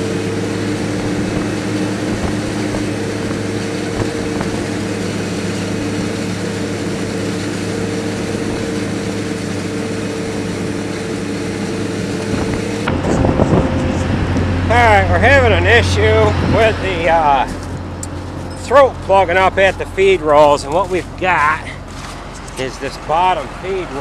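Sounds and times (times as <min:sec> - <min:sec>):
forage harvester diesel drone: 0:00.0 - 0:24.0
tractor engine: 0:00.0 - 0:24.0.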